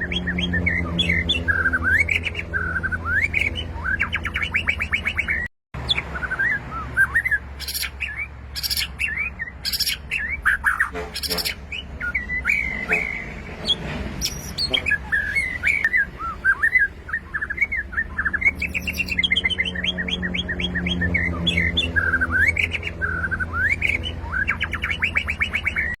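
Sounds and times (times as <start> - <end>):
bird singing whistled phrases: 0.0 - 26.0.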